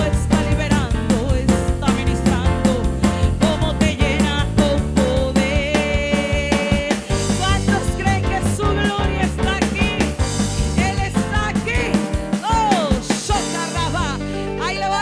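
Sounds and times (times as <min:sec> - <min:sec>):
drum kit beat: 0:00.0 - 0:14.3.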